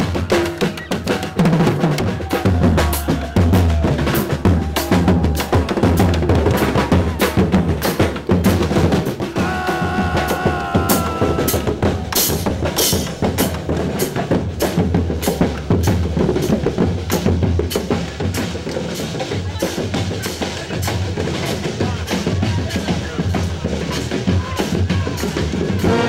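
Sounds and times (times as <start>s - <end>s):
street band drums: 0.0s - 26.0s.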